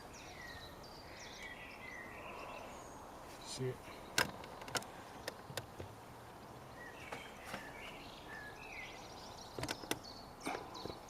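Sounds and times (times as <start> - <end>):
faint bird chirps: 0.0 - 5.5, 6.4 - 11.0
low outdoor background: 0.0 - 11.0.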